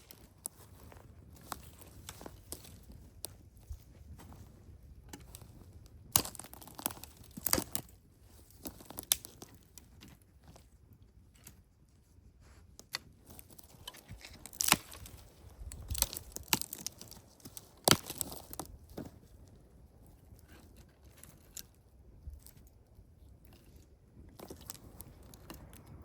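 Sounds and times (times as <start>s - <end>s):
crackling and rustling handling: 0.0s - 26.0s.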